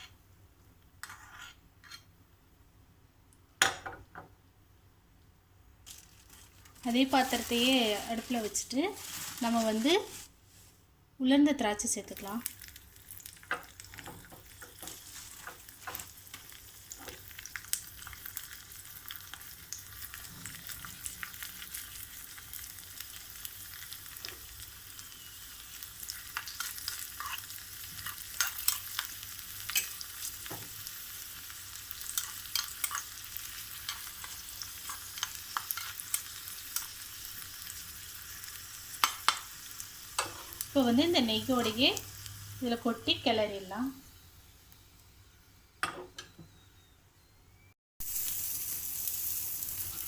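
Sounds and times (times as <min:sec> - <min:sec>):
raisins sizzling and popping in pan: 0:05.8 - 0:10.3, 0:11.8 - 0:46.4, 0:48.0 - 0:50.0.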